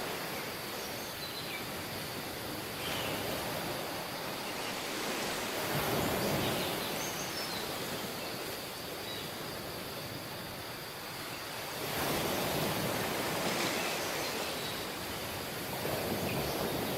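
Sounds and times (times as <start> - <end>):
surf washing on beach: 0.0 - 16.9.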